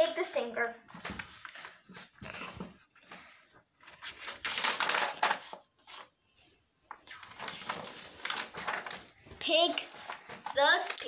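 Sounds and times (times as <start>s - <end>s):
paper pages rustling: 0.8s - 11.0s.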